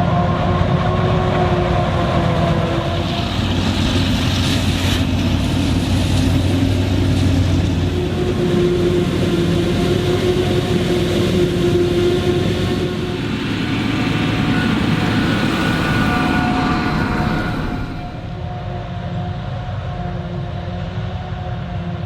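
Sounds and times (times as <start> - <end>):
harvester engine droning with whine: 0.0 - 22.0.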